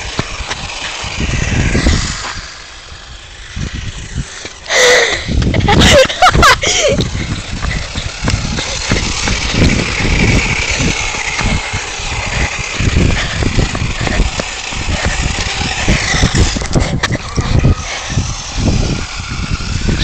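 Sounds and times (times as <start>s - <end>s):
electric rc car motor whining: 0.0s - 20.0s
wind buffeting microphone: 0.0s - 20.0s.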